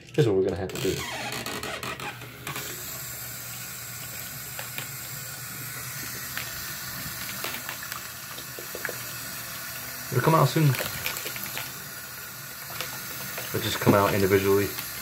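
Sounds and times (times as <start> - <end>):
faucet running into bottle: 0.0 - 15.0
water splashing into sink: 2.3 - 15.0.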